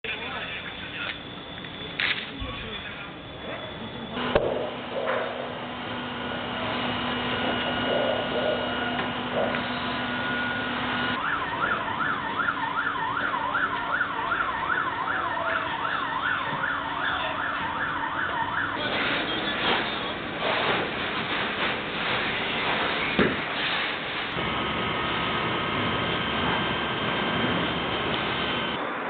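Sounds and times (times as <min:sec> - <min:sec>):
emergency siren yelping: 0:00.1 - 0:20.8, 0:24.3 - 0:28.8.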